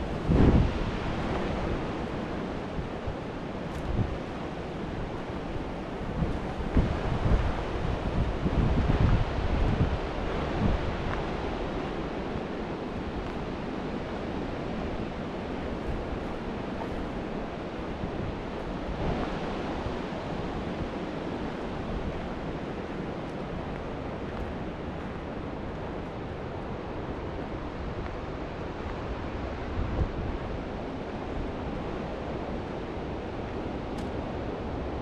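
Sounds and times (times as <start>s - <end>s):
wind blowing through trees: 0.0s - 35.0s
wind buffeting microphone: 0.0s - 35.0s.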